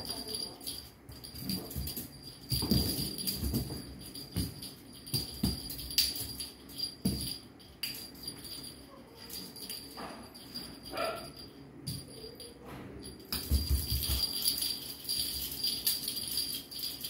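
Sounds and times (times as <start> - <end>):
cat toy jingling and clicking: 0.0 - 17.0.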